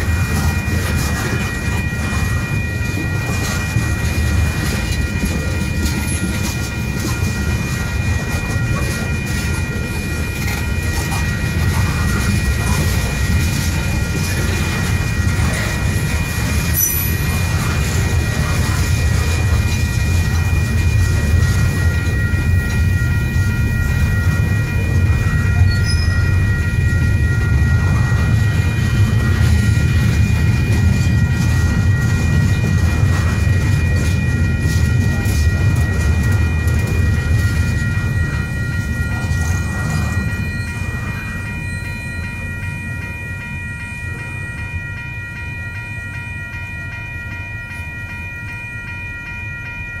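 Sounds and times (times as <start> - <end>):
crossing signal bell ringing: 0.0 - 50.0
train wheels rumbling on rails: 0.0 - 50.0.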